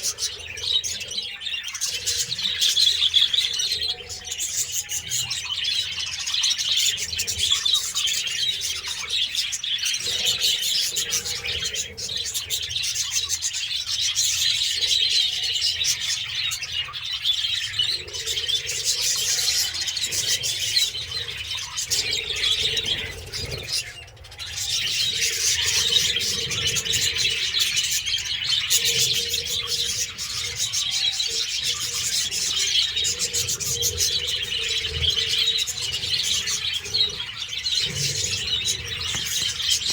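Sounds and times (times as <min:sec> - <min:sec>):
parrots chattering: 0:00.0 - 0:39.9.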